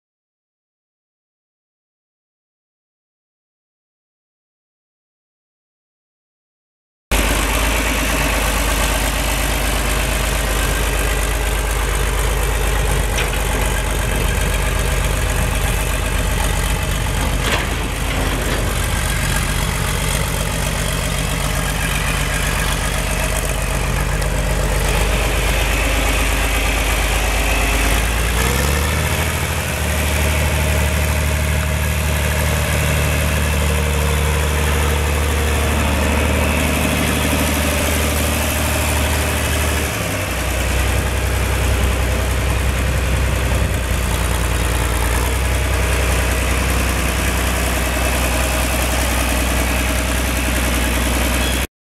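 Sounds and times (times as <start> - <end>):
tractor diesel engine running: 7.1 - 51.7.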